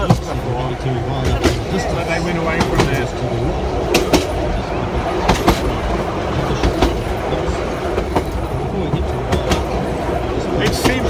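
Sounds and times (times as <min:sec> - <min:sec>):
train wheels rumbling on rails: 0:00.0 - 0:11.0
wheels clacking over rail joints: 0:00.0 - 0:11.0.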